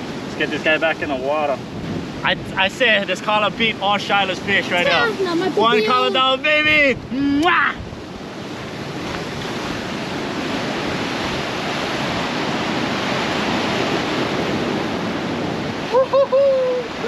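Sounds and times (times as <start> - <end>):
ocean surf washing ashore: 0.0 - 17.0.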